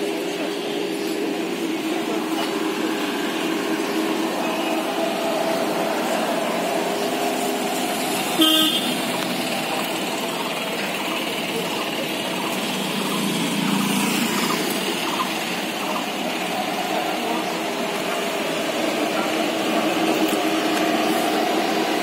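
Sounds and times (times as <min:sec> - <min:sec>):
car engine idling: 0:00.0 - 0:22.0
passing traffic: 0:00.0 - 0:22.0.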